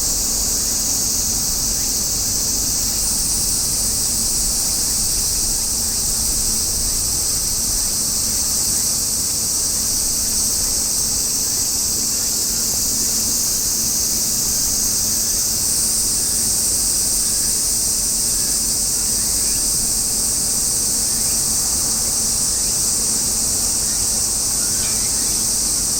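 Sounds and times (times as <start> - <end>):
cicadas buzzing: 0.0 - 25.9.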